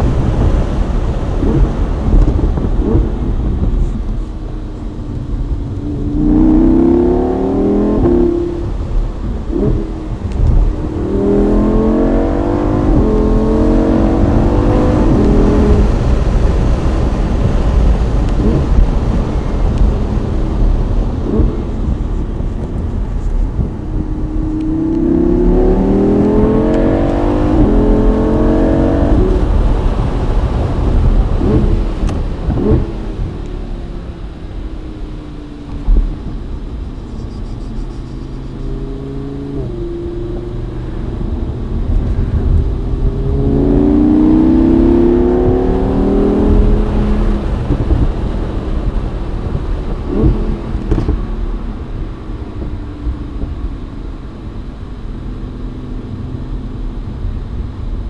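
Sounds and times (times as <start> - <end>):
sports car accelerating hard: 0.0 - 58.0
wind rumble on microphone: 0.0 - 58.0.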